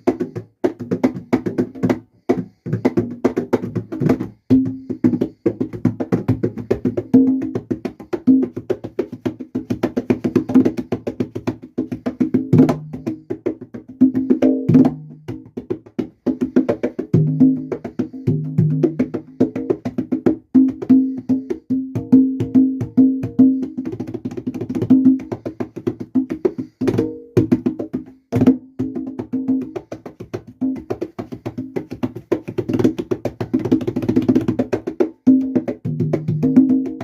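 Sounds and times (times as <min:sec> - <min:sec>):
conga drums playing: 0:00.0 - 0:37.0.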